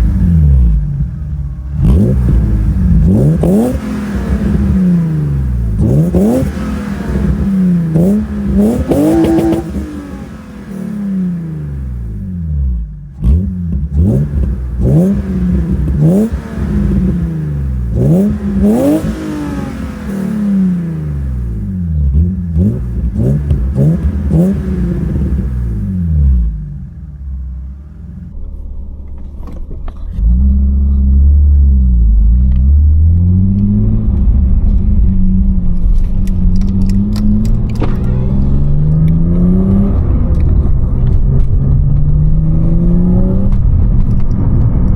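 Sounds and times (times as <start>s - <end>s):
car accelerating through gears: 0.0s - 28.3s, 30.2s - 44.9s
car engine free revving: 0.0s - 28.4s, 30.1s - 44.9s.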